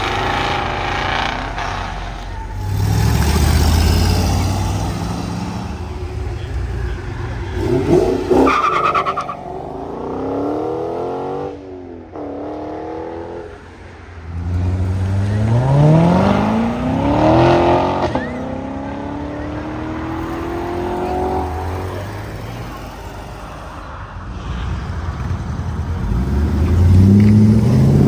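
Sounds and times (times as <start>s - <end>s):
car engines accelerating: 0.0s - 28.0s.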